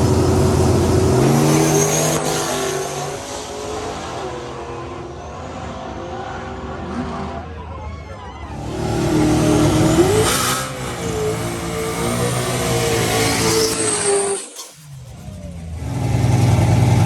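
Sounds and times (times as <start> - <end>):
drag racing car engines: 0.0 - 17.0.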